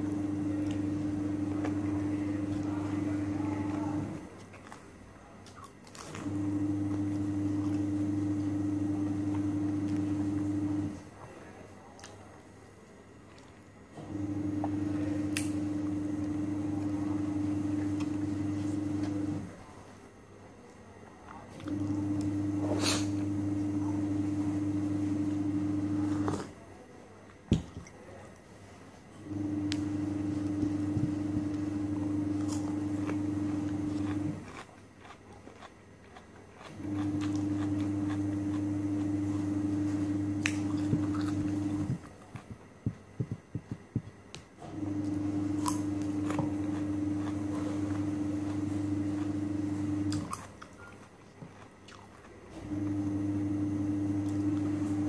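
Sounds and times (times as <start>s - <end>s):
chewing food: 0.0s - 12.3s, 13.2s - 19.6s, 20.7s - 26.6s, 29.3s - 55.0s
eating by hand: 0.0s - 12.5s, 13.2s - 20.0s, 20.6s - 55.0s
electrical appliance hum: 0.0s - 55.0s.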